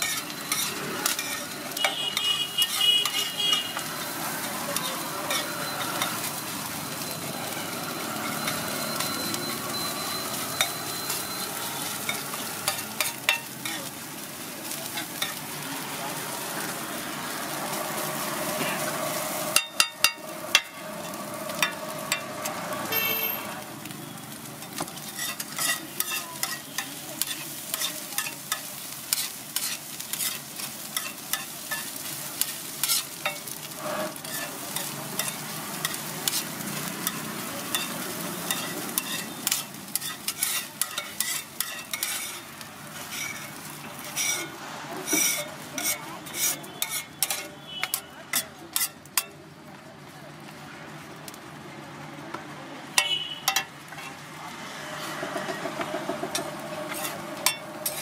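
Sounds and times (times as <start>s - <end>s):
spatulas scraping on griddle: 0.0s - 23.4s, 24.5s - 49.4s, 53.0s - 58.0s
egg and onion sizzling: 0.0s - 58.0s.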